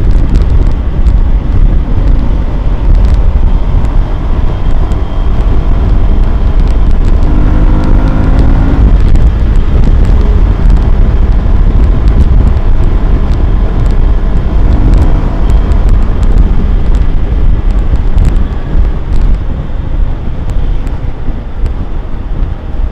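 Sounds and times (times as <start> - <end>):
motorcycle engine running: 0.0 - 22.9
wind rumble on microphone: 0.0 - 22.9.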